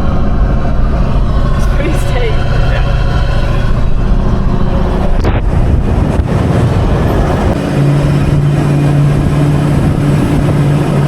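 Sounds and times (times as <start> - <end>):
car engine chugging under load: 0.0 - 11.0
droning engine note: 0.0 - 11.0
road and wind noise: 0.0 - 11.0.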